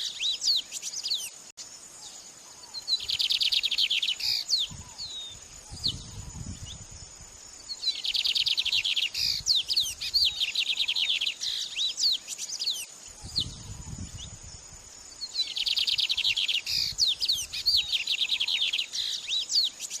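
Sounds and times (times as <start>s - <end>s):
bird chirps and trills: 2.0s - 20.0s.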